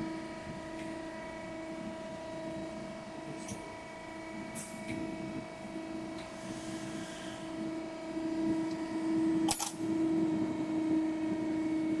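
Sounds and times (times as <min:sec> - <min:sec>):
molding machine humming: 0:00.0 - 0:12.0.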